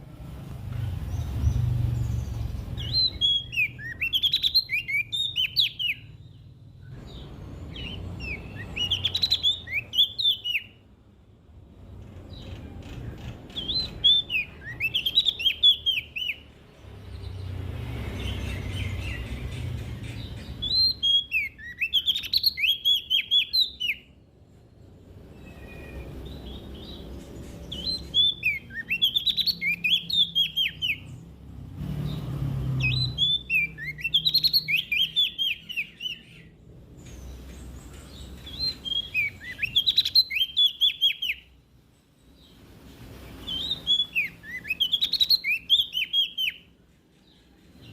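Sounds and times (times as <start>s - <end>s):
warbler chirping: 0.0s - 47.9s.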